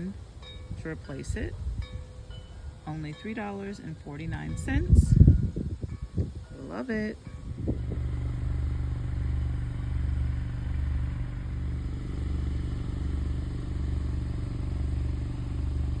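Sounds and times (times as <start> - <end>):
motorcycle engine idle rumble: 0.0 - 16.0.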